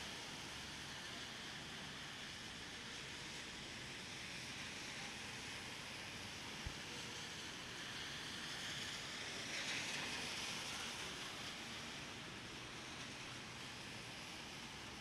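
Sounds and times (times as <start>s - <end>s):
rain falling on street: 0.0s - 15.0s.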